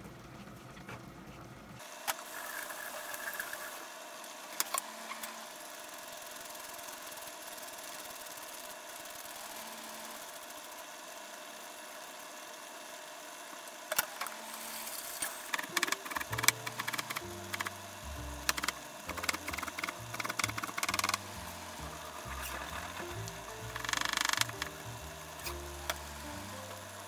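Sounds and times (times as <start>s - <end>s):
appliance fan whirring hum: 0.0s - 27.0s.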